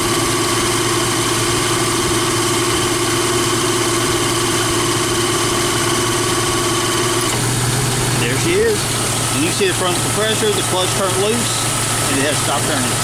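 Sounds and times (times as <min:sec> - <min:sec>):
air compressor pumping: 0:00.0 - 0:13.0
car engine idling: 0:00.0 - 0:13.0.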